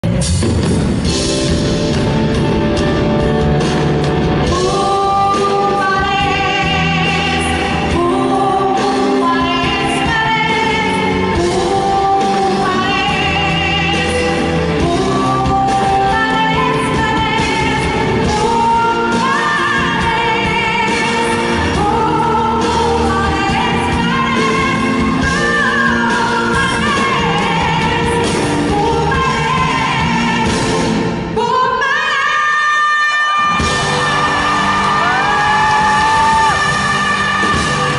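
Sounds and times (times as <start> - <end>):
live band playing: 0.0 - 37.9
person singing with vibrato: 4.4 - 37.9.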